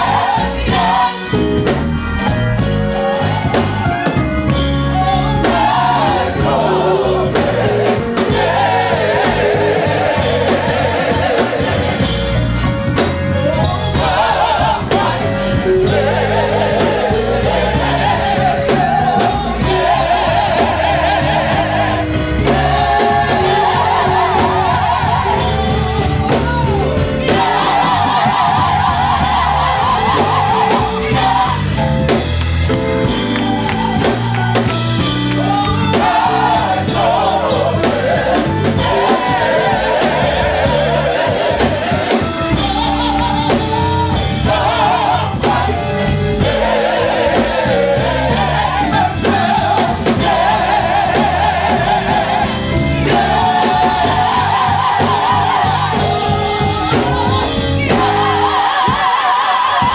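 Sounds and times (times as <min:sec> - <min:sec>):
gospel singing: 0:00.0 - 0:59.9
live band with drums: 0:00.0 - 0:59.9.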